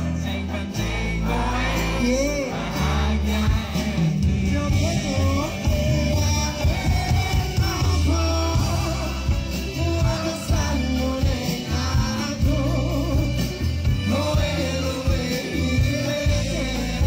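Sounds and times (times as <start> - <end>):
live band music with bass: 0.0 - 17.0
people singing: 0.0 - 17.0.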